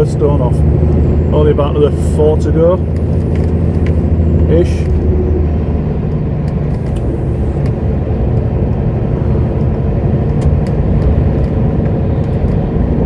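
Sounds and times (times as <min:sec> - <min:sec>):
diesel engine drone: 0:00.0 - 0:13.0
road noise: 0:00.0 - 0:13.0.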